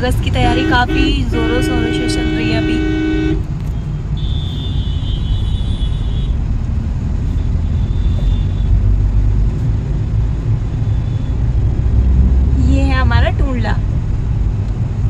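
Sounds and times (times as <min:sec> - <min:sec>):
engine and road noise in car: 0:00.0 - 0:15.0.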